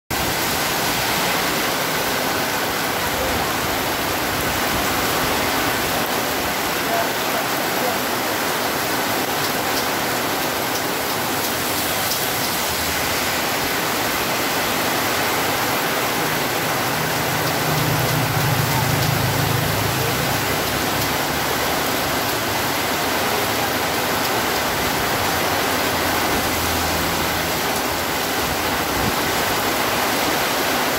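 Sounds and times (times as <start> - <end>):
heavy rain on pavement: 0.1 - 30.9.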